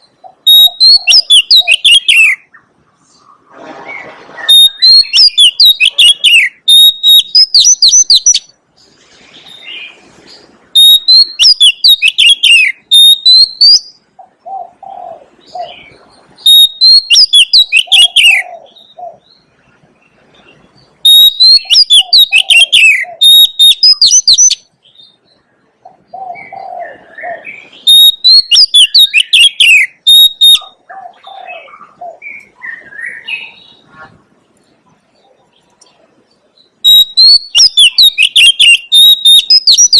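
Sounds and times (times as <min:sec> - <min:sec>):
bird singing whistles and trills: 0:00.0 - 0:02.7, 0:03.9 - 0:08.6, 0:09.4 - 0:19.5, 0:20.4 - 0:33.9, 0:36.6 - 0:39.9.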